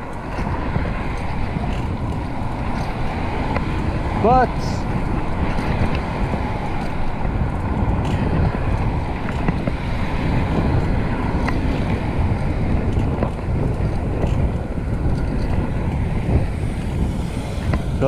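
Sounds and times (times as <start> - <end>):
bicycle road rumble: 0.0 - 18.0
wind rush on microphone: 0.0 - 18.0.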